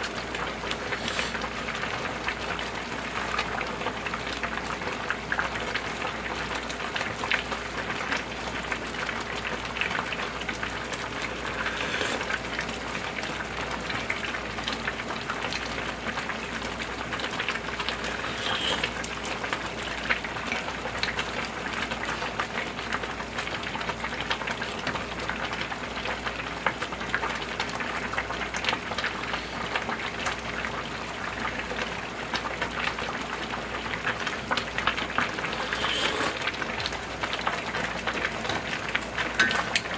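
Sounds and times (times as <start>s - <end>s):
soup boiling with pops: 0.0s - 39.9s.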